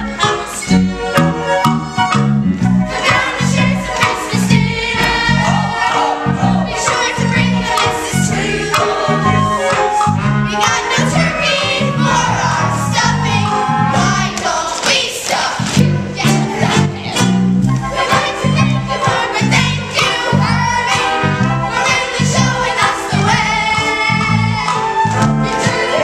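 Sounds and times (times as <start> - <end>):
instrumental accompaniment with bass beat: 0.0 - 14.4, 15.7 - 26.0
children's chorus singing: 2.8 - 17.2, 17.8 - 26.0.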